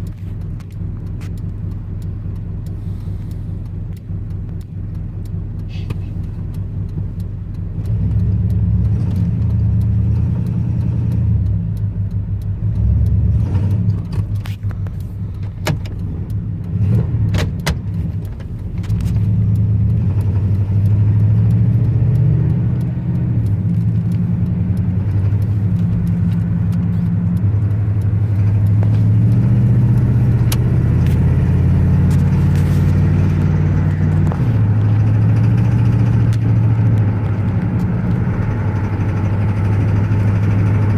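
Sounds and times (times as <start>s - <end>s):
car engine running: 0.0s - 40.9s
sharp clicks: 0.0s - 40.9s.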